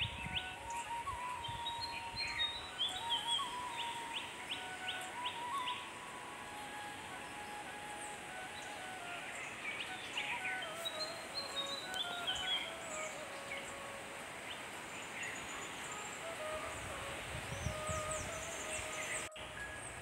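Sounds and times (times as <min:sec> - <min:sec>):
birds chirping: 0:00.0 - 0:20.0
slow melodic background music: 0:00.0 - 0:20.0
steady hiss: 0:00.0 - 0:20.0.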